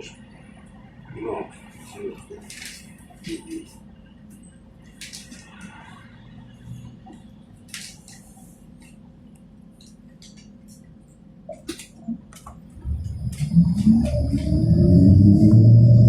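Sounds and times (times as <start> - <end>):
tram interior hum: 0.0 - 16.0.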